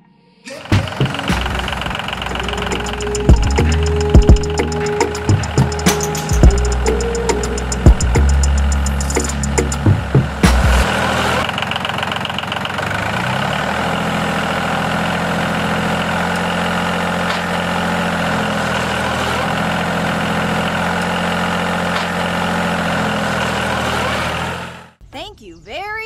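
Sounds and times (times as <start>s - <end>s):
diesel engine idling: 0.5s - 25.0s.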